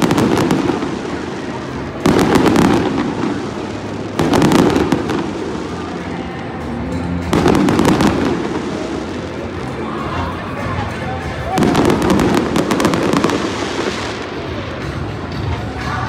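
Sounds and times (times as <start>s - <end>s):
background music: 0.0s - 16.0s
fireworks crackling: 0.0s - 16.0s.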